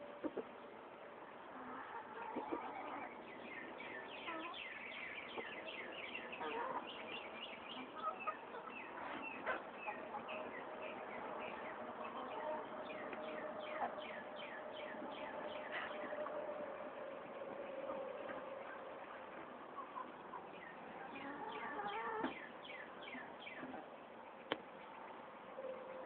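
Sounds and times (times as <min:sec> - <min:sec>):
hens clucking: 0:00.1 - 0:00.7, 0:01.3 - 0:24.9.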